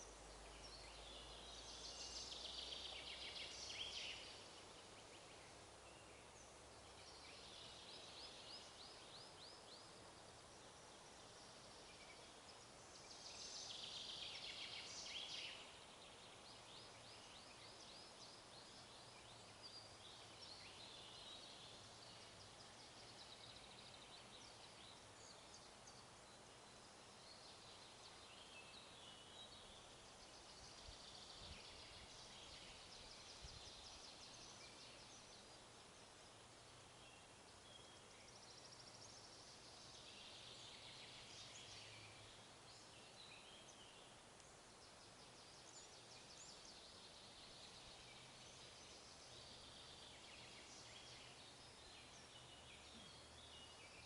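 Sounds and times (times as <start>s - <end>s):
songbirds chirping and trilling: 0.0s - 54.0s
steady hiss: 0.0s - 54.0s.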